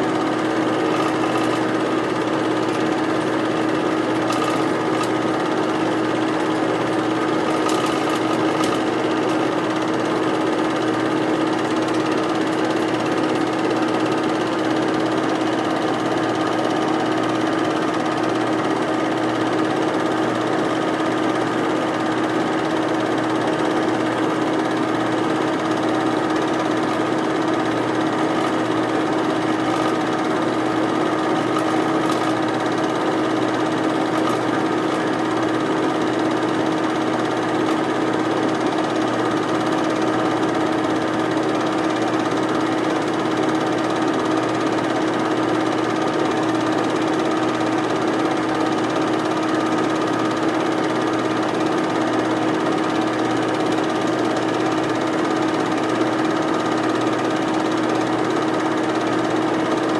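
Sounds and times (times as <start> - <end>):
film projector motor hum: 0.0 - 59.9.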